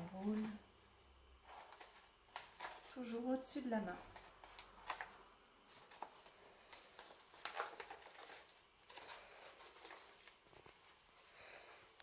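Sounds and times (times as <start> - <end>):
flower stems rustling: 0.0 - 12.0.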